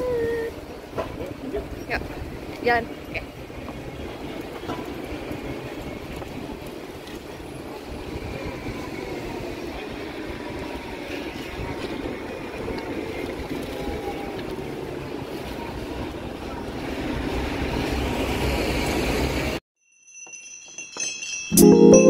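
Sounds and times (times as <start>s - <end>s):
city traffic rumble: 0.0s - 19.6s.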